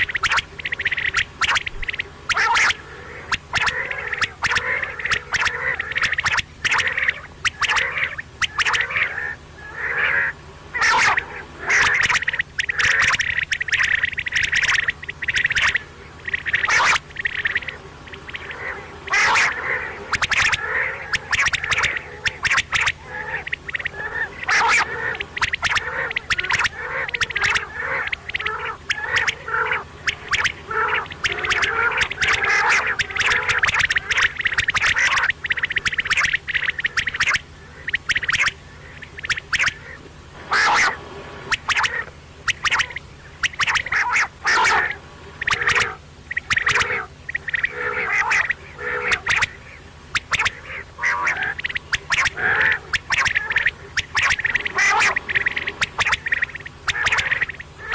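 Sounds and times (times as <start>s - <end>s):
quail calling: 0.0s - 57.9s.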